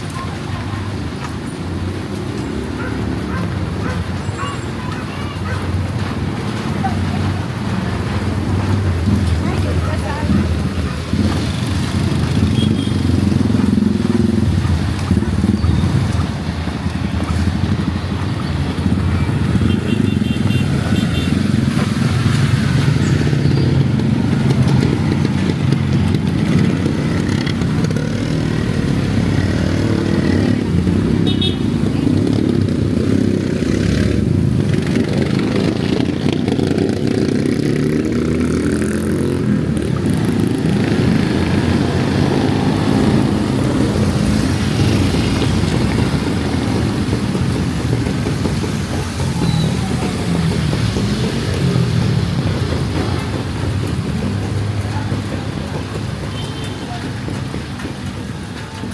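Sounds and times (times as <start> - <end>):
motorcycle engines passing: 0.0 - 58.9.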